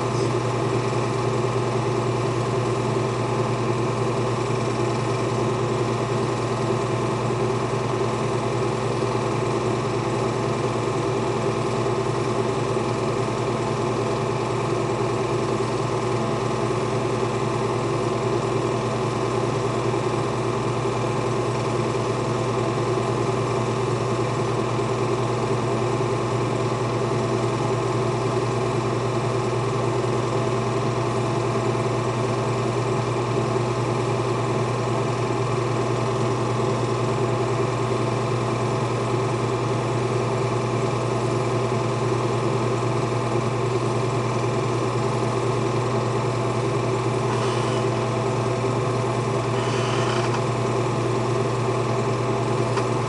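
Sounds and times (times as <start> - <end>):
film projector humming: 0.0 - 53.0.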